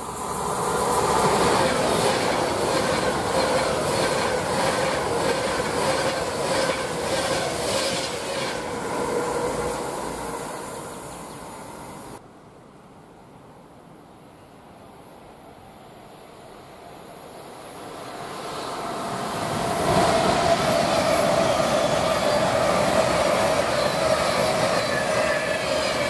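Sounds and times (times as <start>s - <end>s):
electric train passing: 0.0s - 12.2s, 15.2s - 26.0s.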